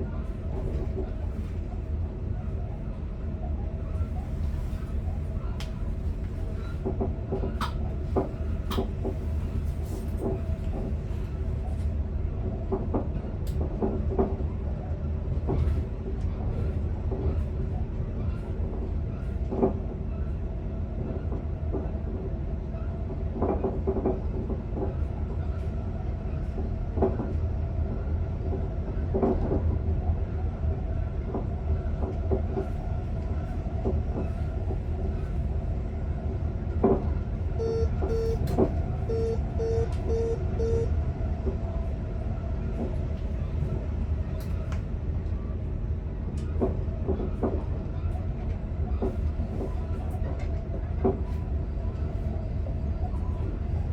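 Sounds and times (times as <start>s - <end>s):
electric train rumbling: 0.0s - 53.9s.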